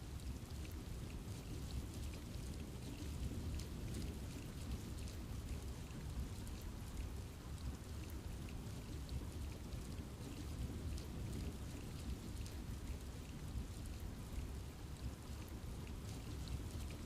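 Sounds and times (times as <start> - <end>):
rain rushing in forest: 0.0 - 17.0.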